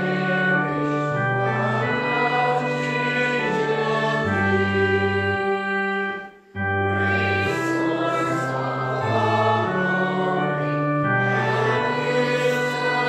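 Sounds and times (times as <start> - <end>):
organ chords: 0.0 - 13.0
voices singing a hymn: 0.0 - 13.0.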